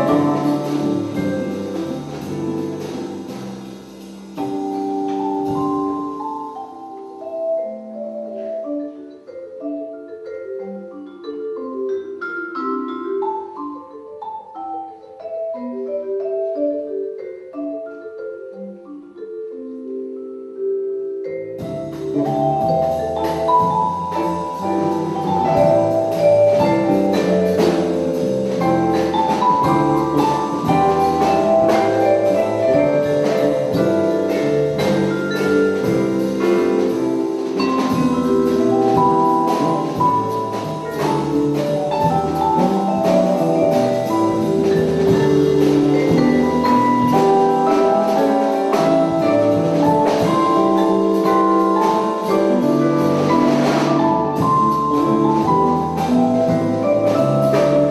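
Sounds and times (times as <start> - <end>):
vibraphone jazz melody: 0.0 - 57.9.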